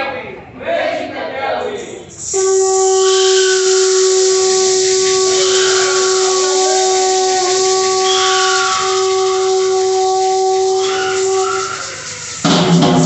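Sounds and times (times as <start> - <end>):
conch shell trumpet note: 2.1 - 12.8.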